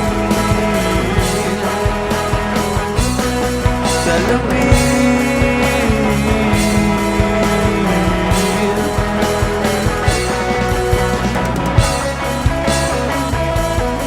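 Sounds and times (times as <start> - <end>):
bass: 0.0 - 14.0
bending electric guitar notes: 0.0 - 14.0
steady drum hits: 0.0 - 14.0.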